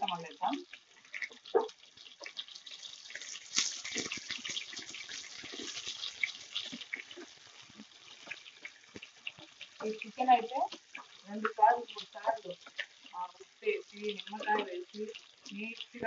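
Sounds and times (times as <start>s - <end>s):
chillies and onion sizzling in oil: 0.0s - 16.0s
spatula stirring: 1.0s - 16.0s.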